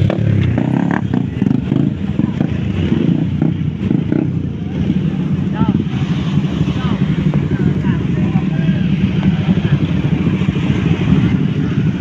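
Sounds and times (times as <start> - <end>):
motorcycle engines idling: 0.0 - 12.0.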